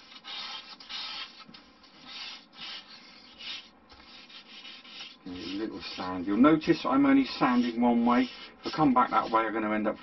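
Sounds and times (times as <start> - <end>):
sandpaper rubbing wood: 0.0 - 10.0.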